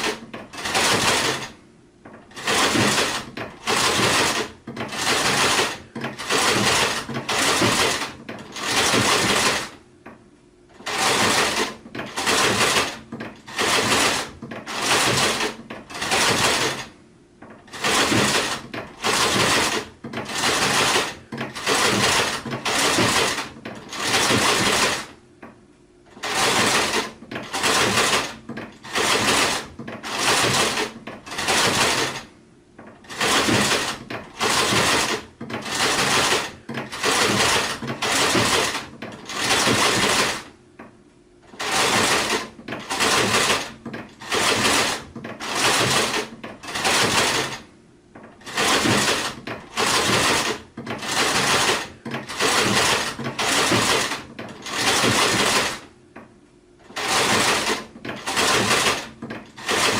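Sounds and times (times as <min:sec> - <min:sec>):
sewing machine stitching: 0:00.0 - 0:25.2, 0:26.1 - 0:40.6, 0:41.4 - 0:55.9, 0:56.8 - 0:59.9.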